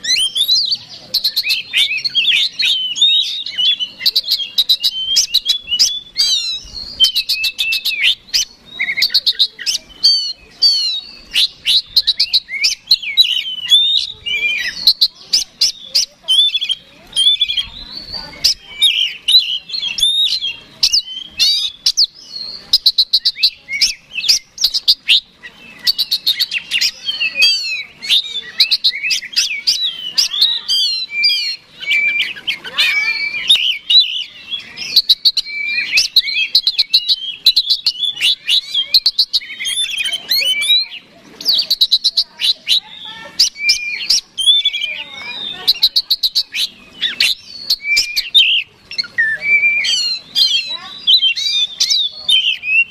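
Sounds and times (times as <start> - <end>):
bird singing whistles and trills: 0.0 - 52.9.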